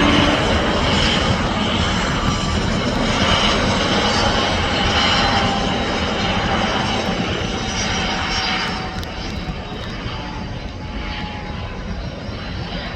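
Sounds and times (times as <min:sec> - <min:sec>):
helicopter engine whine: 0:00.0 - 0:12.9
helicopter rotor noise: 0:00.0 - 0:12.9.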